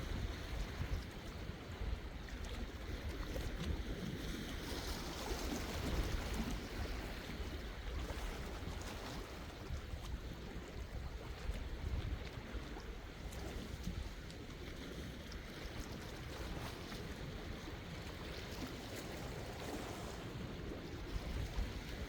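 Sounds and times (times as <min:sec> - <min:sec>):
sea waves washing ashore: 0:00.0 - 0:22.0.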